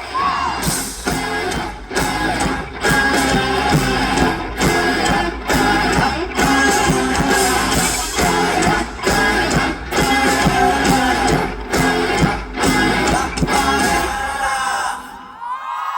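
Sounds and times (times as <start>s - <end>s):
pop music with strummed guitar: 0.0s - 15.4s.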